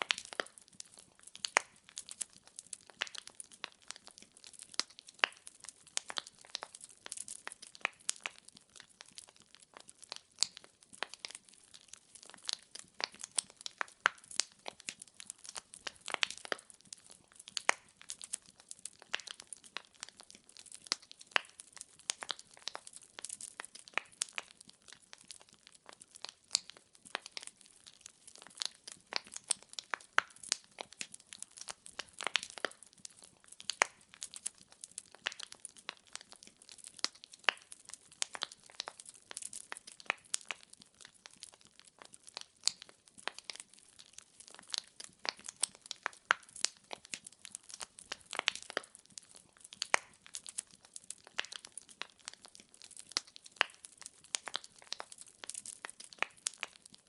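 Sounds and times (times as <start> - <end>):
fireplace crackling: 0.0 - 57.0.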